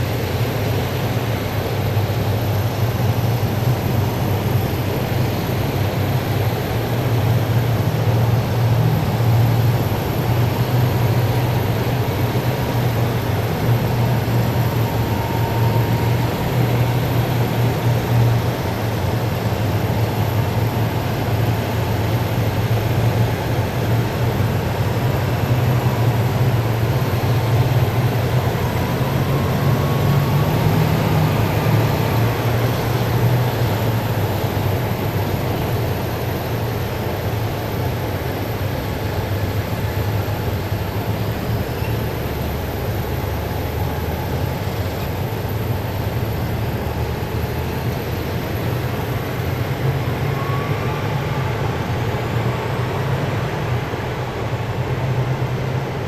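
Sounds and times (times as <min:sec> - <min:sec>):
heavy vehicles driving past: 0:00.0 - 0:56.0.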